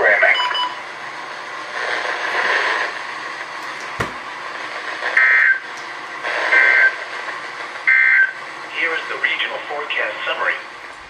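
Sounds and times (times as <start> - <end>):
radio hiss: 0.0 - 3.6, 4.3 - 10.8.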